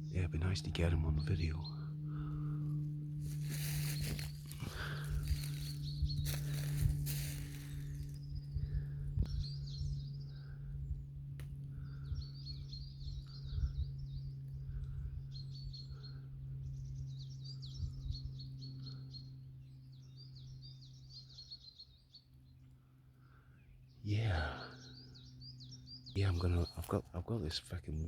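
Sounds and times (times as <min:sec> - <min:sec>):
low steady hum: 0:00.0 - 0:28.0
songbirds chirping: 0:00.0 - 0:28.0.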